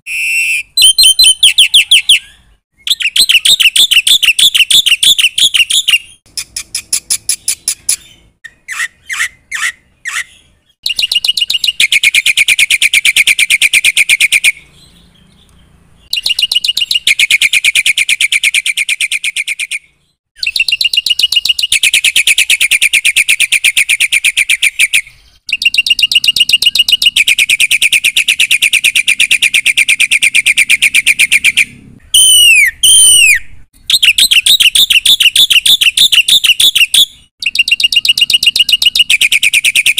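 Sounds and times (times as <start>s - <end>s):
bird chirps: 0.0s - 39.9s
bird singing fast repeated notes: 0.0s - 39.9s
descending bird whistles: 0.0s - 39.9s.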